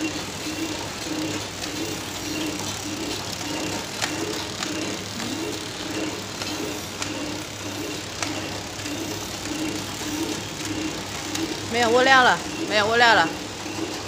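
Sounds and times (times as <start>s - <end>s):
packing machine humming: 0.0s - 14.0s
sharp machine clicks: 0.0s - 14.0s.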